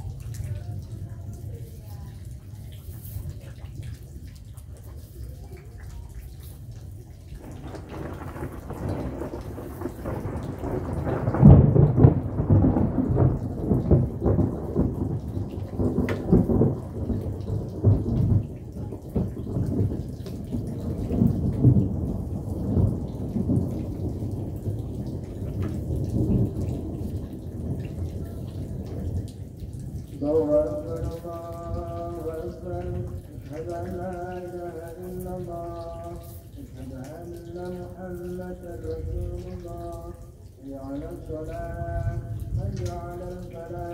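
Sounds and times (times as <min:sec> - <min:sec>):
rain: 0:00.0 - 0:43.9
rolling thunder: 0:07.3 - 0:36.8, 0:37.4 - 0:40.5, 0:41.2 - 0:43.9.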